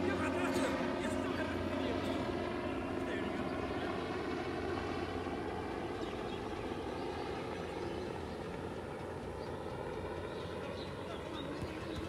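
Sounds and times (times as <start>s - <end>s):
distant engine drone: 0.0s - 12.0s
outdoor background noise: 0.0s - 12.0s.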